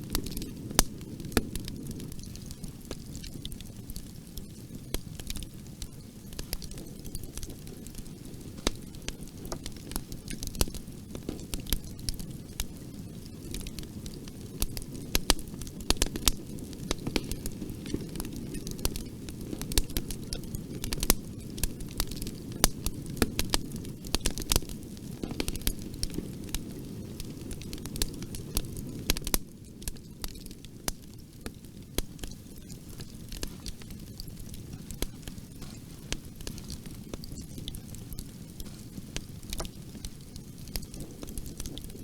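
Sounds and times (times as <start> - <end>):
bonfire burning: 0.0 - 42.0.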